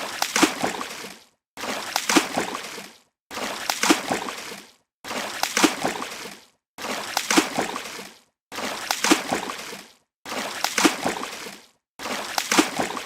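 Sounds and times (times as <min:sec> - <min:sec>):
water splash: 0:00.0 - 0:13.0.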